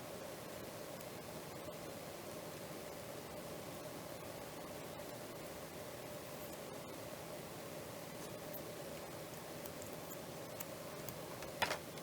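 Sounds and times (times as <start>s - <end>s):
background hiss: 0.0s - 12.0s
faint hum: 0.0s - 12.0s.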